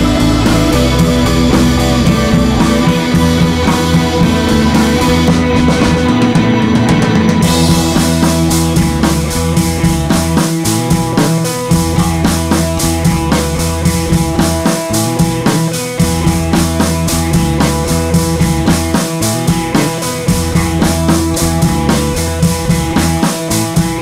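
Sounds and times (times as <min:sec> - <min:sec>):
rock music with drum beat: 0:00.0 - 0:24.0.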